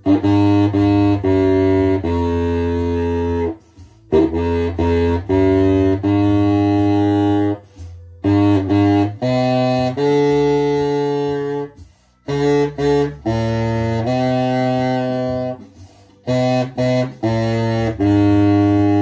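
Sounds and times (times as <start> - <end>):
baritone saxophone playing: 0.0 - 19.0.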